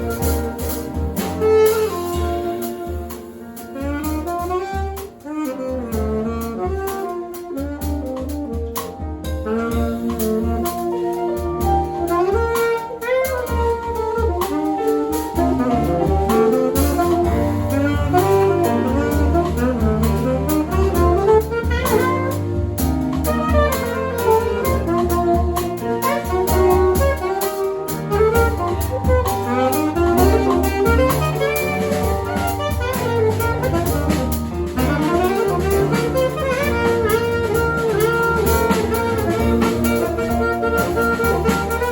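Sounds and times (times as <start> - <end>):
alto saxophone melody: 0.0 - 41.9
drum kit keeping time: 0.0 - 41.9
keyboard bass notes: 0.0 - 41.9
piano: 0.0 - 41.9.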